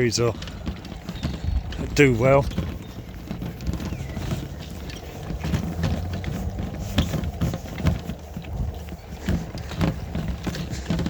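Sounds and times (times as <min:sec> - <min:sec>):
steady low rumble: 0:00.0 - 0:10.9
footsteps walking: 0:00.0 - 0:11.0.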